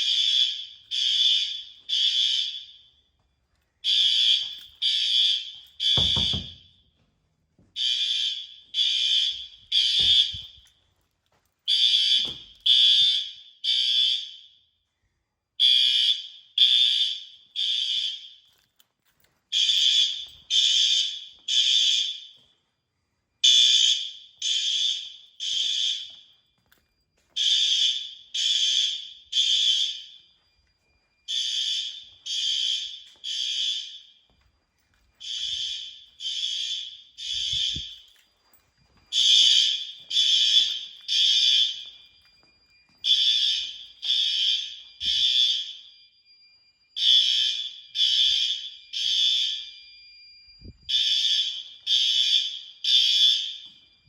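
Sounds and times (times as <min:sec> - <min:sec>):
fire alarm horns buzzing: 0:00.0 - 0:03.2, 0:03.8 - 0:07.0, 0:07.8 - 0:10.8, 0:11.7 - 0:14.8, 0:15.6 - 0:18.8, 0:19.5 - 0:22.6, 0:23.4 - 0:54.0.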